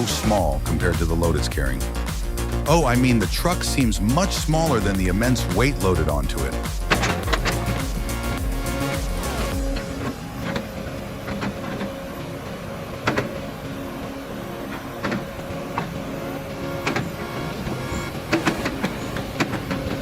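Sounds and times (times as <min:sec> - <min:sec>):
machine motor running: 0:00.0 - 0:20.0.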